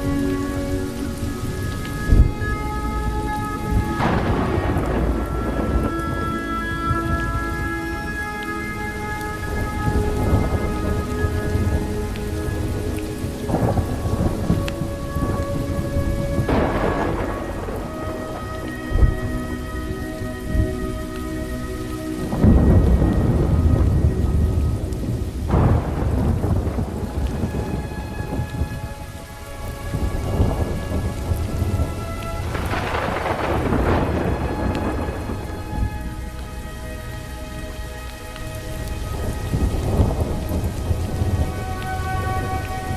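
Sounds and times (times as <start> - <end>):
faint sustained music notes: 0.0 - 42.9
heavy rain: 0.0 - 42.9
thunder rumbling: 0.0 - 42.9.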